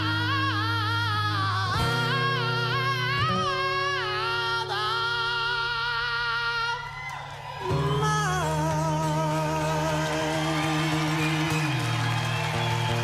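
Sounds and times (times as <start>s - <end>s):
bending held guitar notes: 0.0s - 13.0s.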